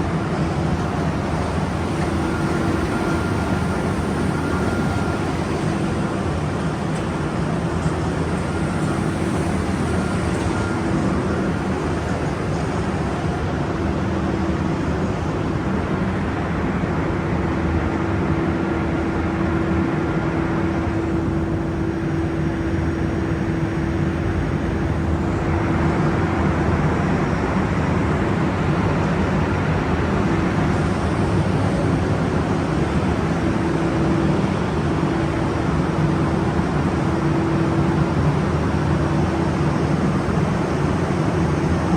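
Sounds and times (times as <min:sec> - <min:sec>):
machine engine droning: 0:00.0 - 0:41.9.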